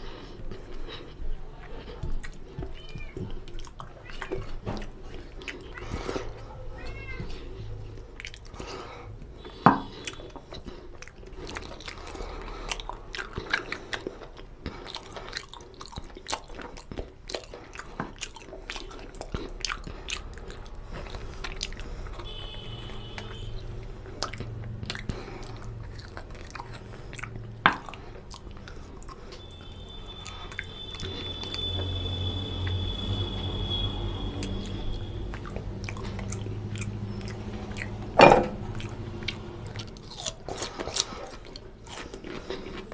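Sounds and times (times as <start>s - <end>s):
sticky mouth clicks: 0.0s - 6.4s, 9.5s - 32.0s, 34.3s - 42.9s
wet chewing and mouth smacking: 0.0s - 42.9s.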